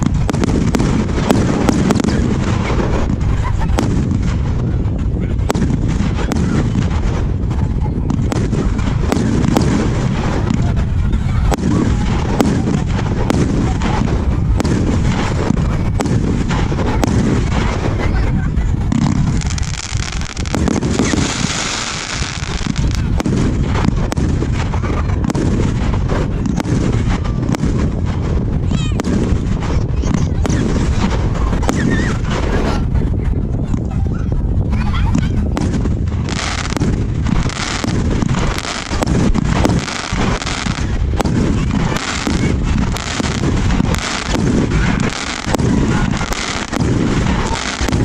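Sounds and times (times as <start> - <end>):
fireworks crackling hiss: 0.0 - 33.2, 35.5 - 48.0
fireworks bangs and pops: 0.0 - 48.0
low booming: 0.0 - 48.0.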